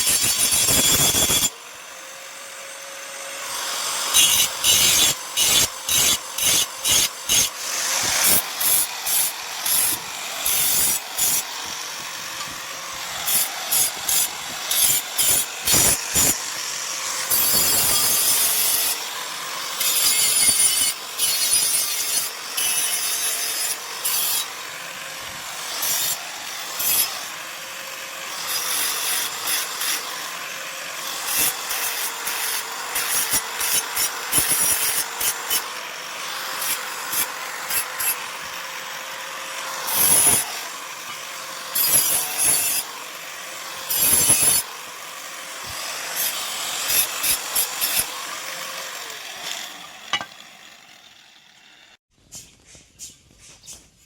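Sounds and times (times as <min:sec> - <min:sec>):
grinder motor: 0:00.0 - 0:52.0
grinder scraping steel: 0:00.0 - 0:52.0.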